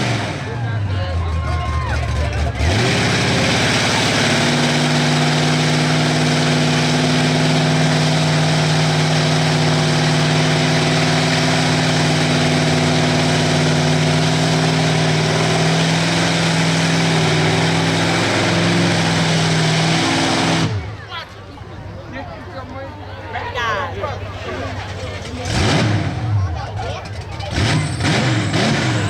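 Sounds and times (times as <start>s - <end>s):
truck engine at high revs: 0.0s - 21.4s, 23.9s - 29.0s.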